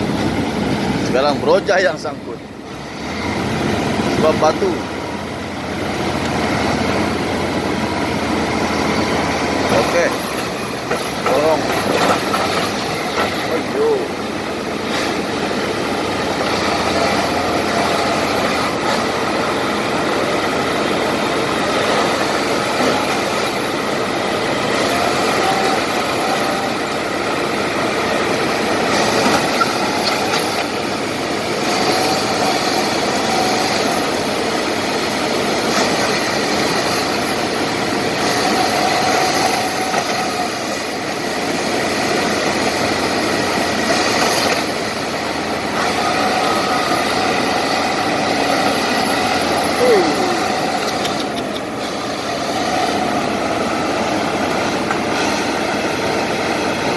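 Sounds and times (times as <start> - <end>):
bulldozer diesel engines under load: 0.0 - 56.9
faint engine whine: 0.0 - 56.9.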